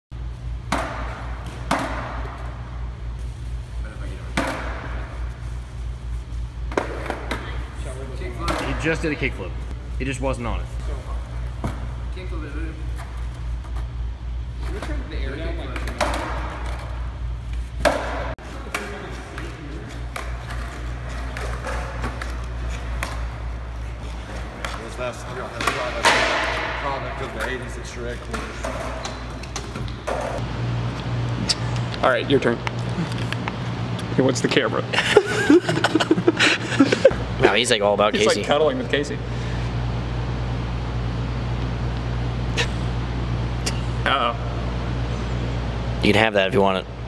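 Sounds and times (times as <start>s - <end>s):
steady low hum: 0.1s - 47.0s.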